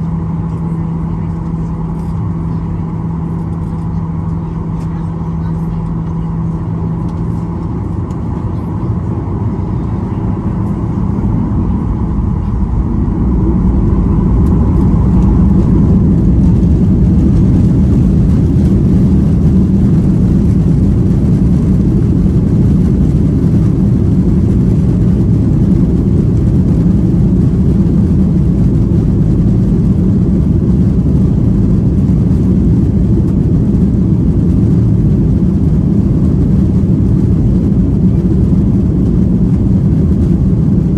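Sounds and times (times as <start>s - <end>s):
jet engines roaring from cabin: 0.0s - 40.9s.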